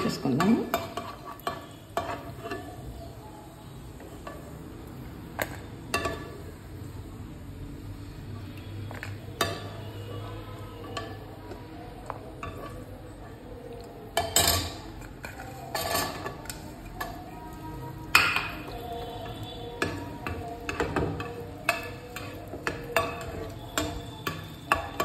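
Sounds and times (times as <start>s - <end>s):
spoon scraping cooking pan: 0.0s - 6.6s, 8.4s - 25.0s.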